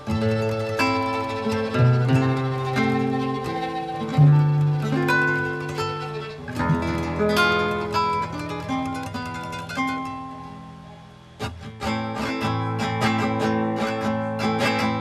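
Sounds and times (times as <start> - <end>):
plucked guitar notes: 0.0 - 15.0
strummed guitar: 0.0 - 15.0.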